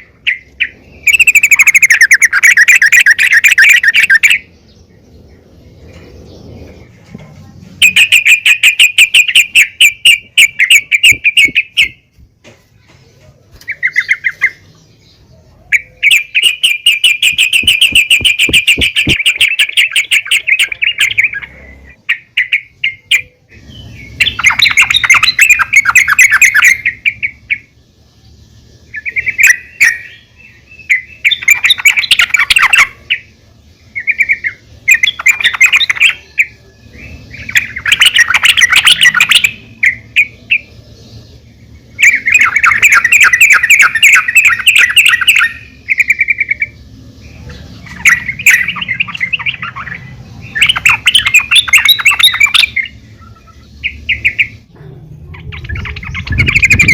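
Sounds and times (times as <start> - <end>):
bird chattering calls: 0.0 - 4.6, 7.8 - 12.1, 13.6 - 14.8, 15.6 - 27.8, 28.9 - 40.9, 41.6 - 56.9.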